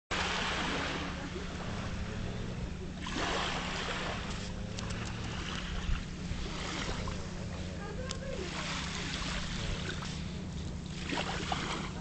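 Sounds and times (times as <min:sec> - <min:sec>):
waves washing onto sandy shore: 0:00.1 - 0:12.0
wind rumble on microphone: 0:00.2 - 0:12.0.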